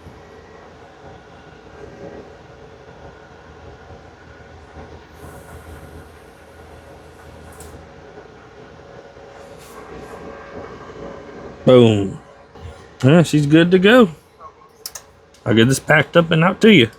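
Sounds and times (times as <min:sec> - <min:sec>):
amplifier test bench whirr: 0:00.0 - 0:16.9.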